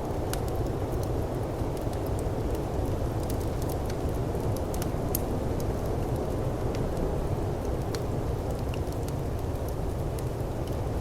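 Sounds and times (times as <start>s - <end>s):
firepit crackling and popping: 0.0s - 11.0s.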